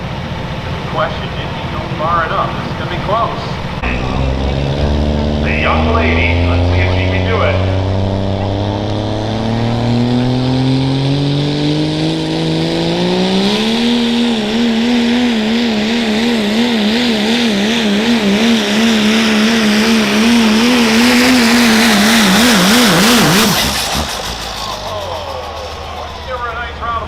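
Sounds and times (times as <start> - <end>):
diesel truck engine at full throttle: 0.0 - 27.0.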